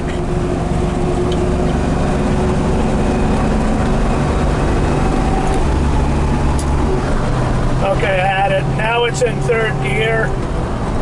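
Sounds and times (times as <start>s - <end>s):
engine cruising: 0.0s - 11.0s
road rumble: 0.0s - 11.0s.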